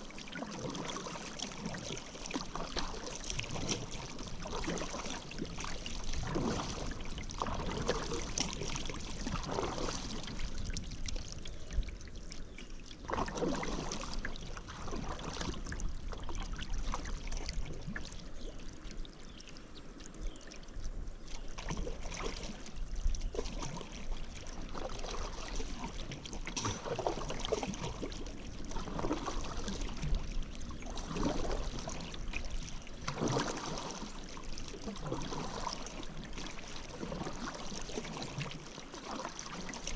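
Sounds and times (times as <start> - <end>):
paddle splashing through water: 0.0 - 19.5, 21.2 - 39.9.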